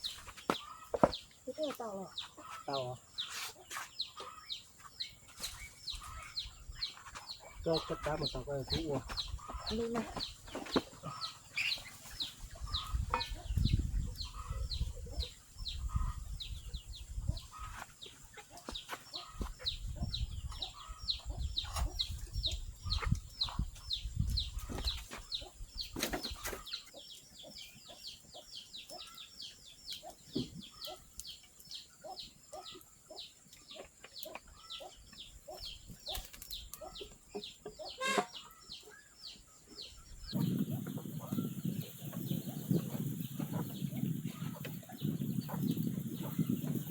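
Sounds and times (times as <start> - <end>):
bird chirping peeps: 0.0 - 46.9.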